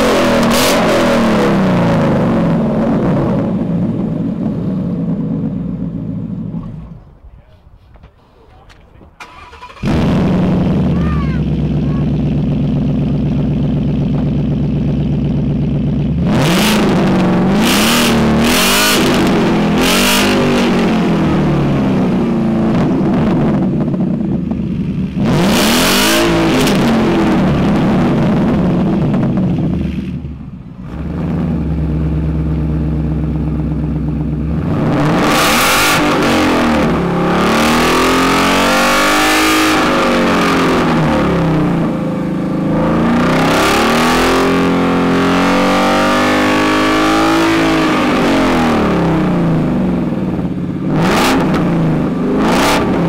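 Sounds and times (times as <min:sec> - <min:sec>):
second car engine revving: 0:00.0 - 0:07.1, 0:09.2 - 0:53.0
car engine idling and revving: 0:00.0 - 0:07.2, 0:09.0 - 0:53.0.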